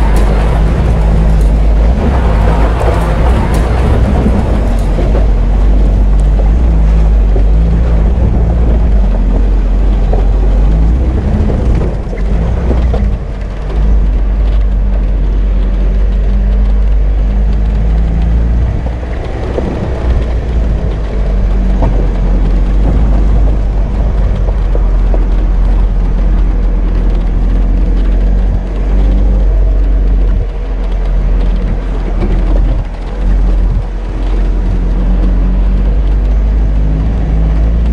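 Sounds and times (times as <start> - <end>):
knocks and rattles: 0.0 - 37.9
vehicle engine rumbling: 0.0 - 37.9.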